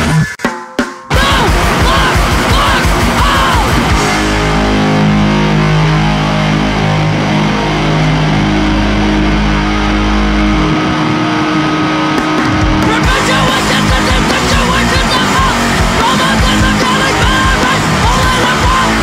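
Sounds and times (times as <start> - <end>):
distorted electric guitars and bass: 0.0 - 0.5, 1.1 - 19.0
high guitar feedback tone: 1.1 - 19.0.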